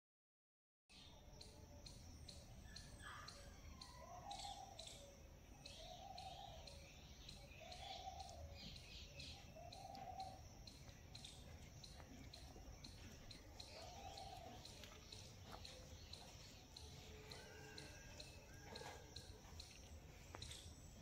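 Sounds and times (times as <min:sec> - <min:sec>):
high-pitched chirps and ticks: 0:01.3 - 0:21.0.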